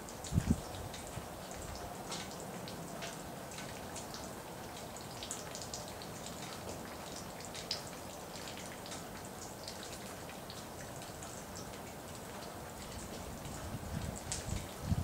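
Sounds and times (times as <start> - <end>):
raindrops ticking: 0.0 - 14.8.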